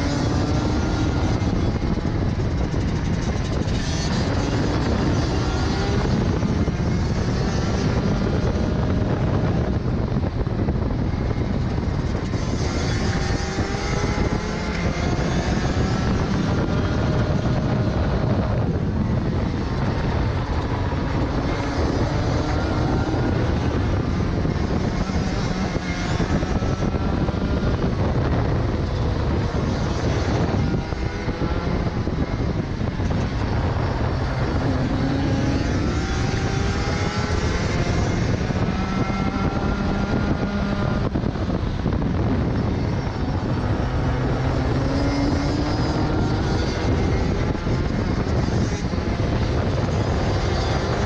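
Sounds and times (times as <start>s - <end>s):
racing kart engine: 0.0s - 51.0s
wind and road noise: 0.0s - 51.0s.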